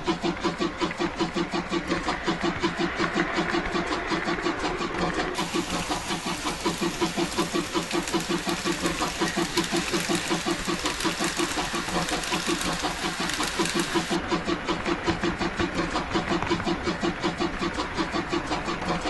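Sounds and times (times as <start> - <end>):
steam locomotive exhaust chuffs: 0.0 - 19.0.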